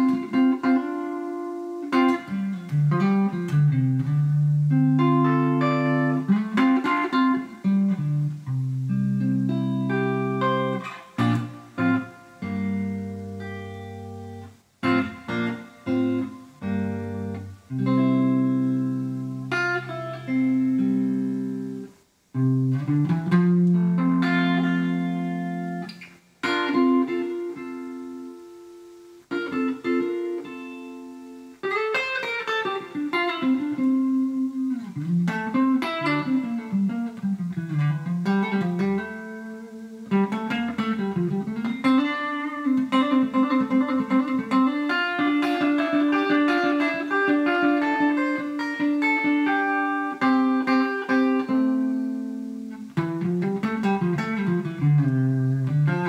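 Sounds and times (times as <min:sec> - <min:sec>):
electric guitar blues: 0:00.0 - 0:56.0.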